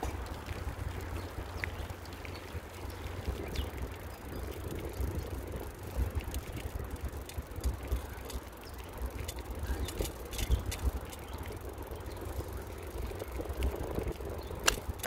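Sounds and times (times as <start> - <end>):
bicycle clicks and rattles: 0.0 - 15.0
wind rumbling on microphone: 0.0 - 15.0.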